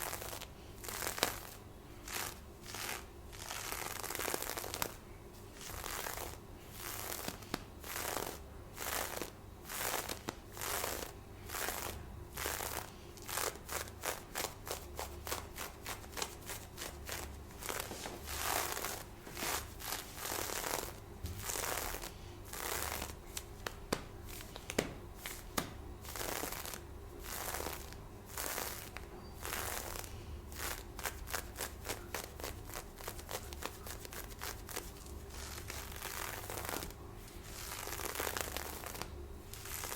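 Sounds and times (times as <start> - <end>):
scratching fishnet stockings: 0.0 - 39.9.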